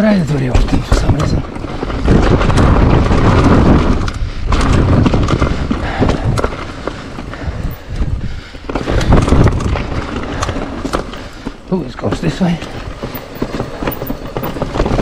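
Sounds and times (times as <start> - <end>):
bike rattling over rocky trail: 0.0 - 15.0.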